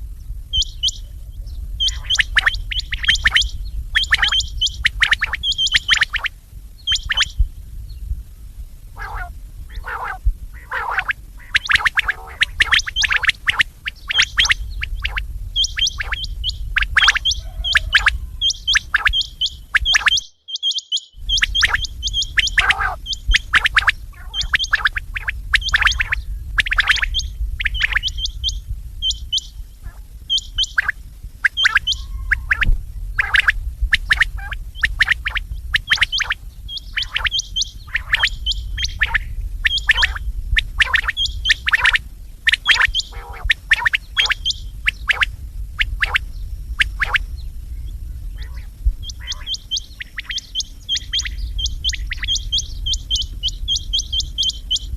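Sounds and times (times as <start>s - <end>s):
steady low hum: 0.0s - 54.9s
quails chirping rapidly: 0.5s - 8.0s, 9.0s - 54.9s.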